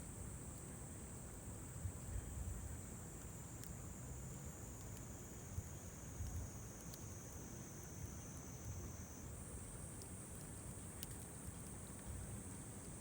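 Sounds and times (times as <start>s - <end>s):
campfire crackle: 0.0s - 13.0s.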